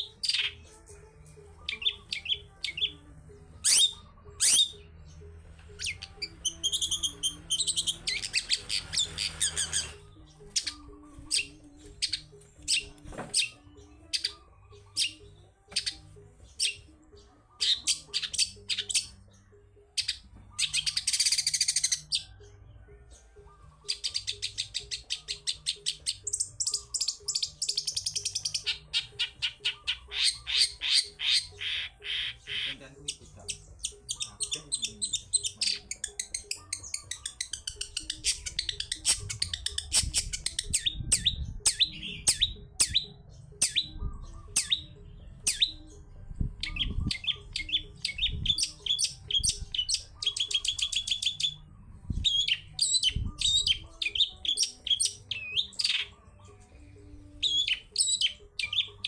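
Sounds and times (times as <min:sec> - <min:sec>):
bird singing chattering song: 0:00.0 - 0:59.0.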